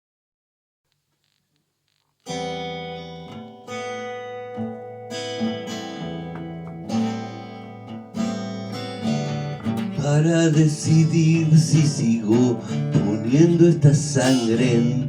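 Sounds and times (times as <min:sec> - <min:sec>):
acoustic guitar strumming: 0:02.2 - 0:15.0.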